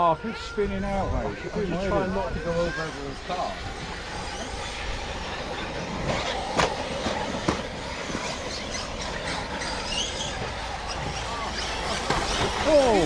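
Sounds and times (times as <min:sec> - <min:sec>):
radio-controlled car motors: 0:00.0 - 0:13.0.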